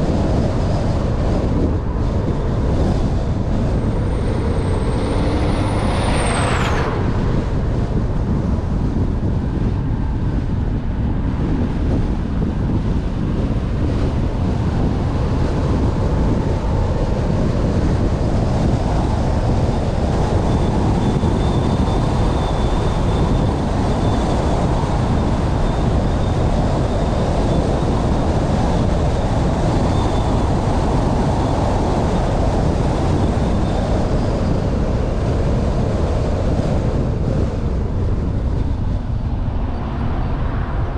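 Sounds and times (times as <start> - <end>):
car road and wind noise: 0.0 - 40.9.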